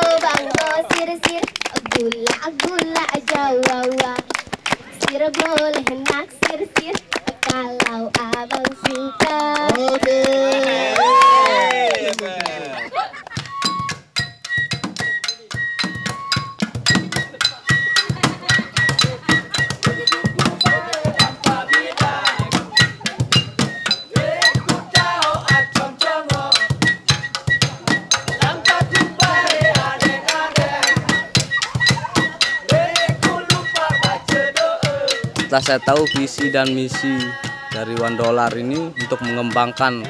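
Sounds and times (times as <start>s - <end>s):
rhythmic percussion clicking and knocking: 0.0s - 11.6s, 12.5s - 40.0s
voices singing: 0.0s - 13.7s, 17.0s - 40.0s.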